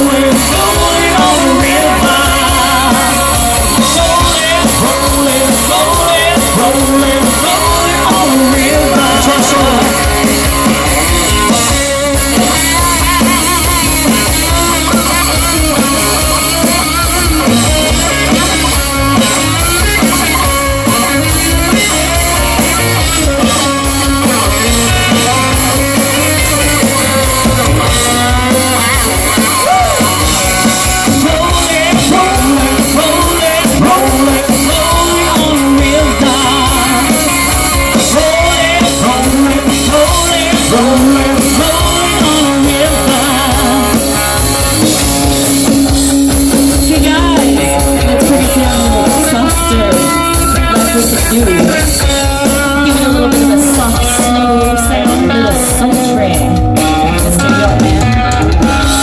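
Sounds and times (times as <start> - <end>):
drum kit: 0.0 - 59.0
electric guitar: 0.0 - 59.0
person singing lead vocal: 0.0 - 59.0.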